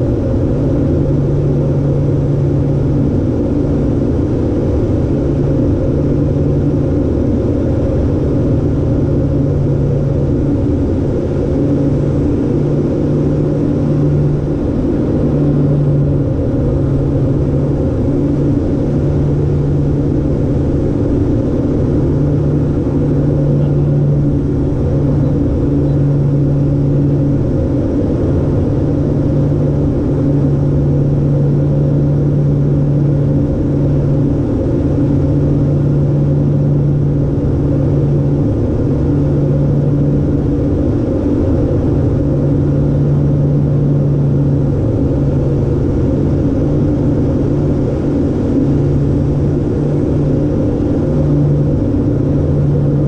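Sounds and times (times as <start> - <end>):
propeller engines droning: 0.0 - 53.0.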